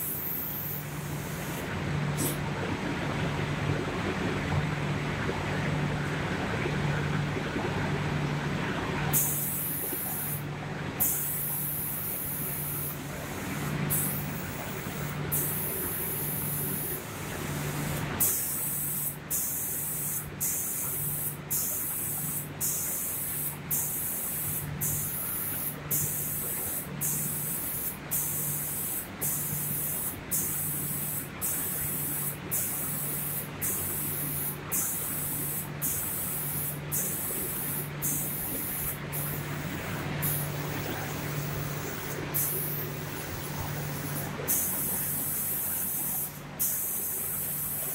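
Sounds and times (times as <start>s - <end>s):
spray gun hissing: 0.0s - 1.6s, 9.1s - 10.4s, 11.0s - 47.9s
low machine hum: 0.0s - 47.9s.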